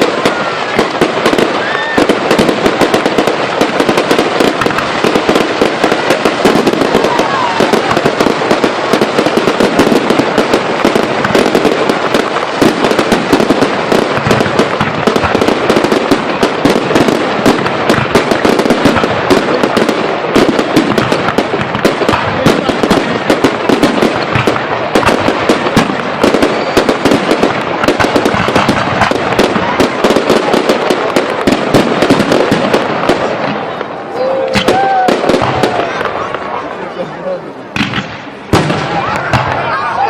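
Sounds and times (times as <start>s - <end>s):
fireworks crackling and banging: 0.0s - 40.0s.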